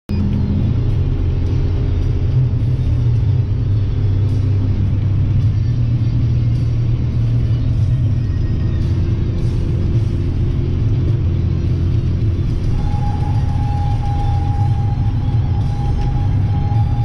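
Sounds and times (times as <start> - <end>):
vehicle engine and road rumble: 0.1 - 17.0.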